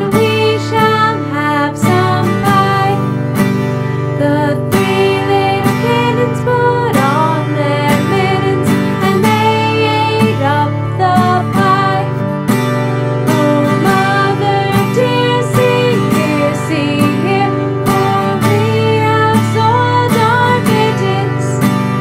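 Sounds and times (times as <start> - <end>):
woman singing: 0.0 - 3.4, 4.0 - 12.4, 13.0 - 22.0
strummed acoustic guitar: 0.0 - 22.0.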